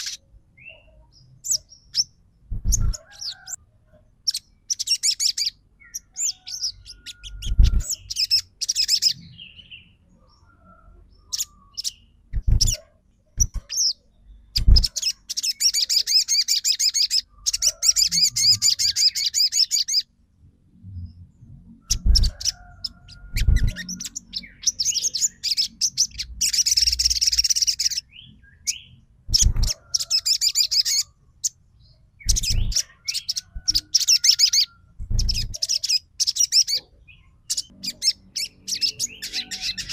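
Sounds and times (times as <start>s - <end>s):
bird singing chattering trills: 0.0s - 3.6s, 4.2s - 10.5s, 11.2s - 20.1s, 21.8s - 39.9s.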